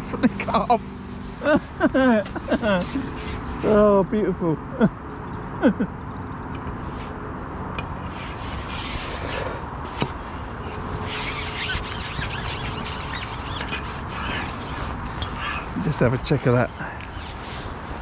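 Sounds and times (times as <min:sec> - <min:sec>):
fishing pole rubbing and scraping: 0:00.0 - 0:03.9, 0:06.8 - 0:07.3, 0:07.9 - 0:18.0.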